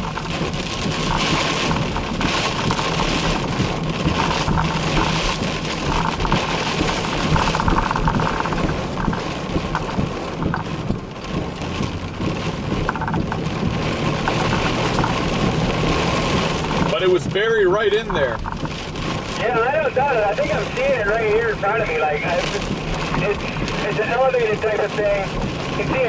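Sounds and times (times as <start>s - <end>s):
engine and tyre hum: 0.0s - 26.0s
rain on a car: 0.0s - 26.0s.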